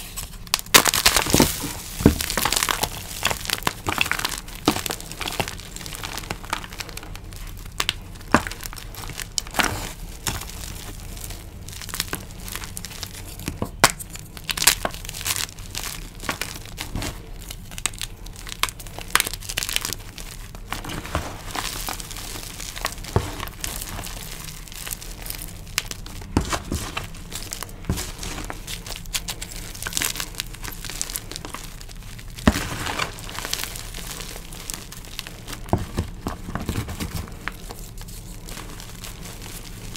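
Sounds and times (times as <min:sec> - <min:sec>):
chalk crunching in hands: 0:00.0 - 0:39.9.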